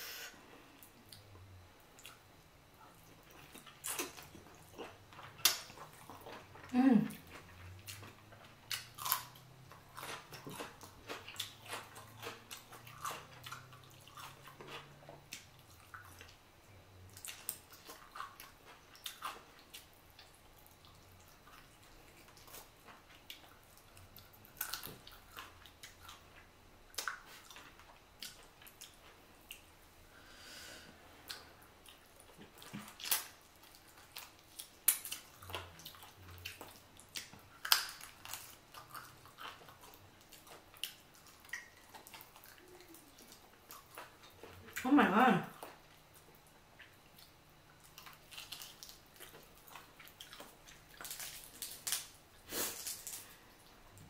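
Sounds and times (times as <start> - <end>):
chewing meat: 0.7 - 29.8, 31.2 - 54.0.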